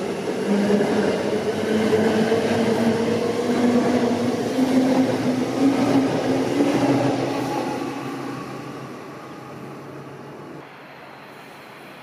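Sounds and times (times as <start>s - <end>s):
train wheels rumbling: 0.0s - 10.6s.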